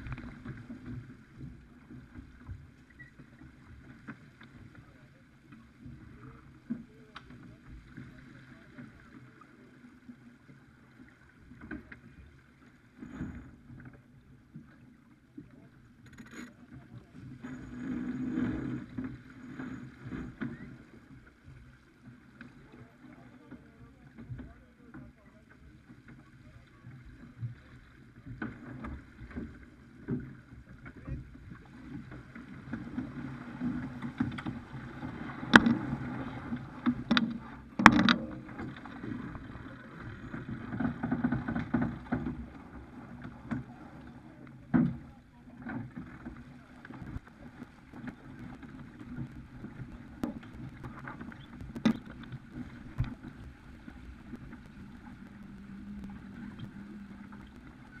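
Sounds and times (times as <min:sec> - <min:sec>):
water rushing past a boat: 0:00.0 - 0:58.0.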